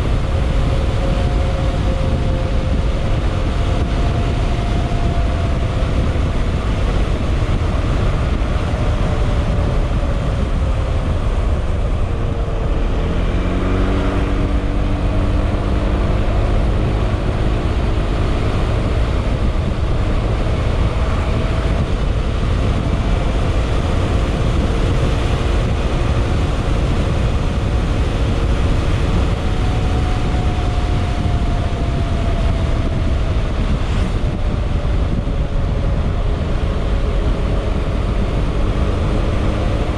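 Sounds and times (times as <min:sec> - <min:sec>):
low rumble: 0:00.0 - 0:39.9.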